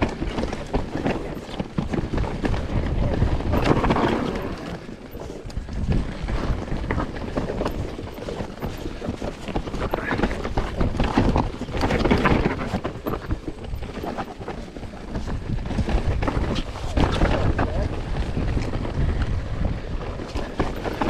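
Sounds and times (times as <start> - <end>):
tyres rattling over rocks: 0.0 - 21.0
wind on microphone: 0.0 - 21.0.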